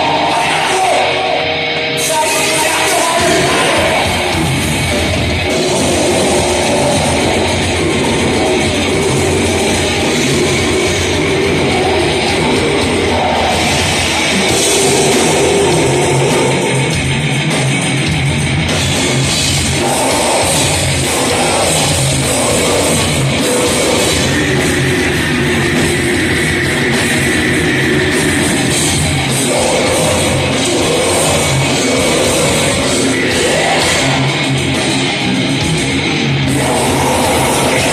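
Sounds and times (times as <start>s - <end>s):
distorted electric guitars: 0.0s - 37.9s
drum kit: 2.0s - 37.9s.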